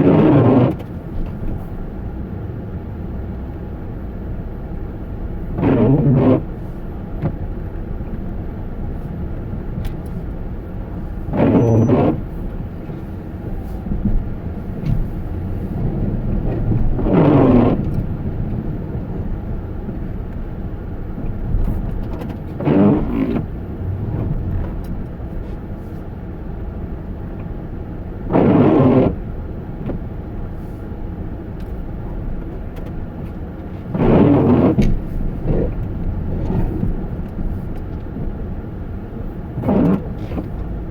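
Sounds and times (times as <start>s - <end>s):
vehicle rumble: 0.0s - 40.9s.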